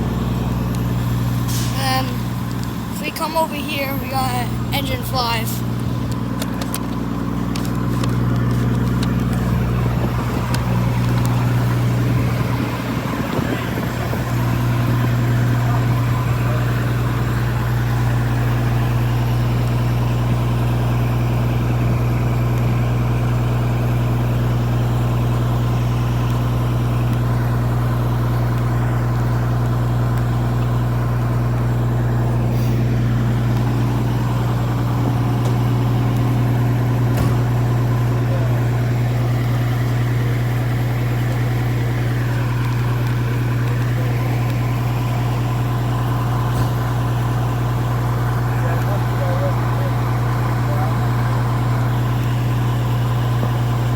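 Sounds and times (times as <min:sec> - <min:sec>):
fire engine idling: 0:00.0 - 0:53.9.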